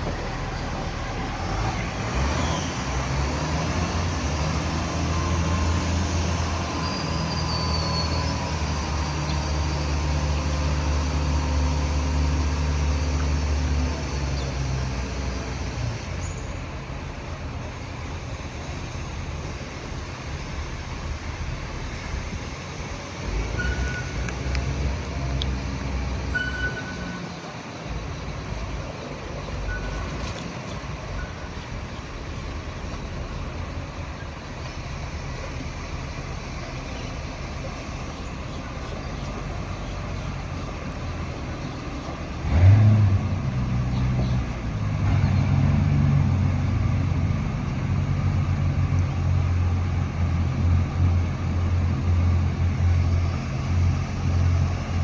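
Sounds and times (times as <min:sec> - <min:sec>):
boat outboard engines rumbling: 0:00.0 - 0:55.0.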